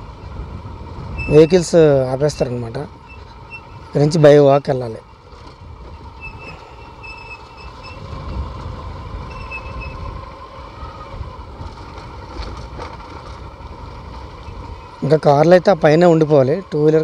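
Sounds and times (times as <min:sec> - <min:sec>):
motorbike engine rumble: 0:00.0 - 0:17.0.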